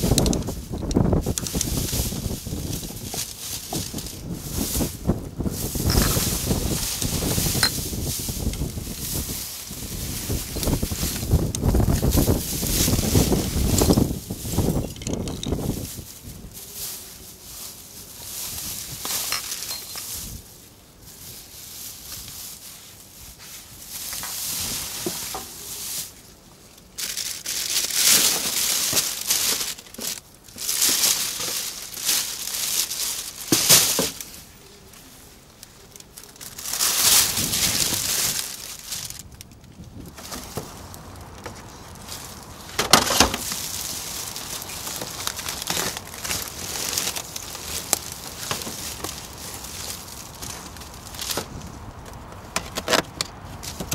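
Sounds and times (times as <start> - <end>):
plastic bags crinkling: 0.0 - 53.9.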